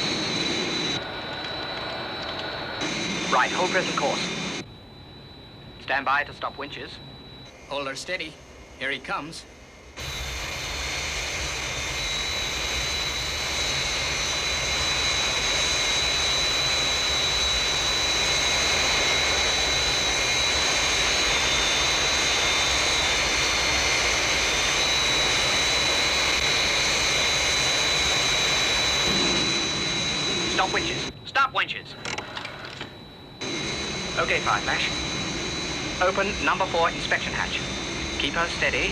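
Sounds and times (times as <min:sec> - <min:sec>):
jet engine roar and whine: 0:00.0 - 0:38.9.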